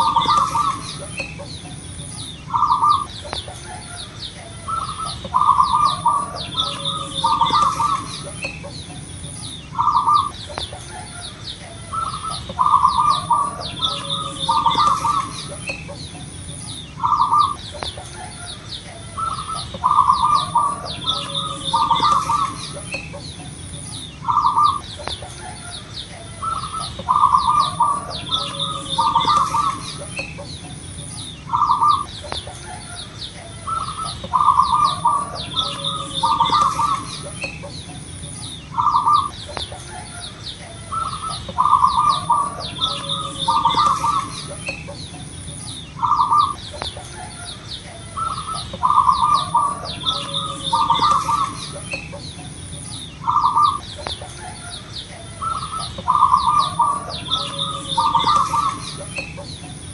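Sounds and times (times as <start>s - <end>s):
dove cooing: 0.0s - 59.9s
small birds chirping: 0.0s - 59.9s.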